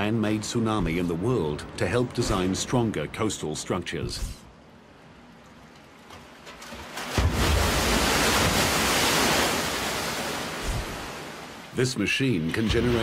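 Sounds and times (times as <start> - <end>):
water rushing with low rumble: 0.0 - 13.0.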